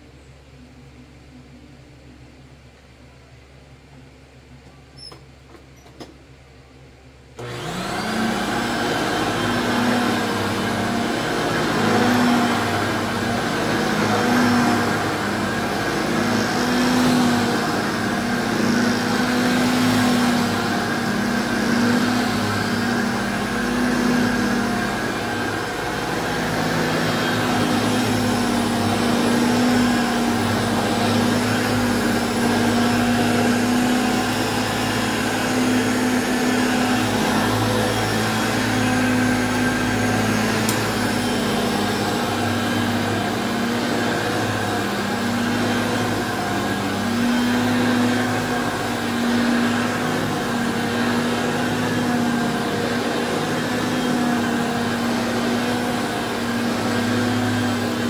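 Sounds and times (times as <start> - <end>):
vacuum cleaner motor hum: 7.4 - 58.0.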